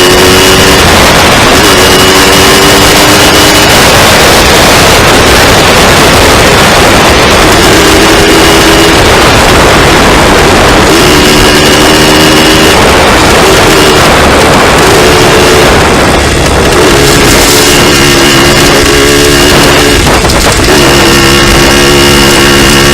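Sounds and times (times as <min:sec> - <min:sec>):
dirt bike engine revving: 0:00.0 - 0:22.9
steady rushing noise: 0:00.0 - 0:22.9.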